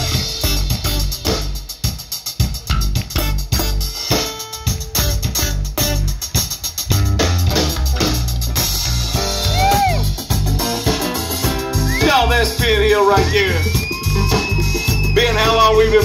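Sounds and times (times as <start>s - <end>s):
guitar: 0.0s - 1.6s, 2.7s - 16.0s
electric bass guitar: 0.0s - 1.7s, 2.6s - 16.0s
drum kit: 0.0s - 16.0s.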